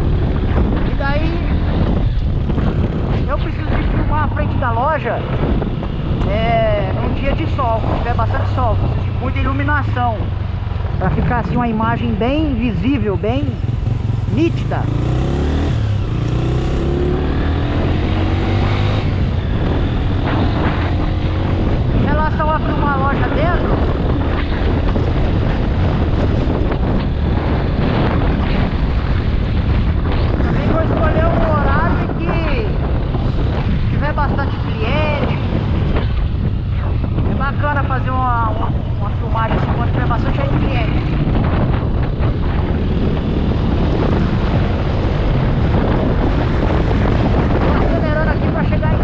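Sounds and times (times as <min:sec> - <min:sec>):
motorcycle engine running: 0:00.0 - 0:49.0
wind buffeting microphone: 0:00.0 - 0:49.0.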